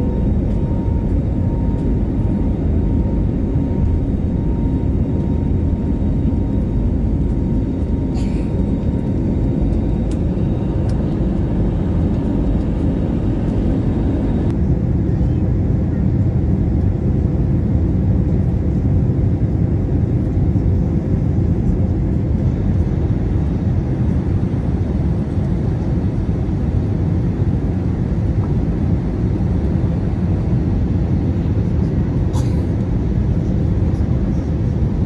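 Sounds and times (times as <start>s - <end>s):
jet engines and airflow rumble: 0.0s - 35.0s.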